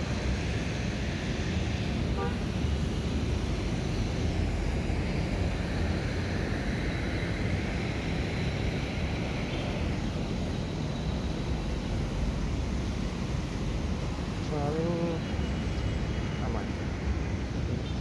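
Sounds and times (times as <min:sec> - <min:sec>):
low rumble of vehicles: 0:00.0 - 0:18.0
traffic hiss: 0:00.0 - 0:18.0.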